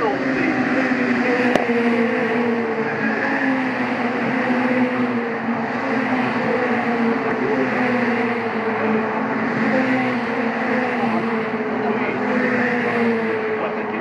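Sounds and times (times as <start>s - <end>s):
race car engines: 0.0s - 14.0s.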